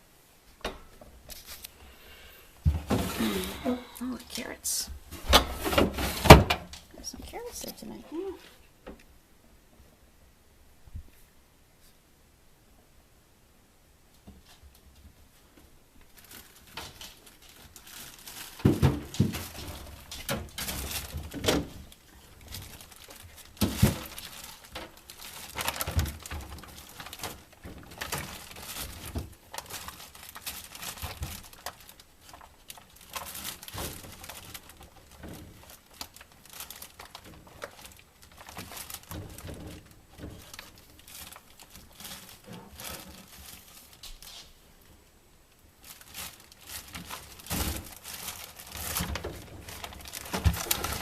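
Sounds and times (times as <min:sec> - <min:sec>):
plastic bags rustling: 0:00.9 - 0:08.7, 0:15.4 - 0:51.0.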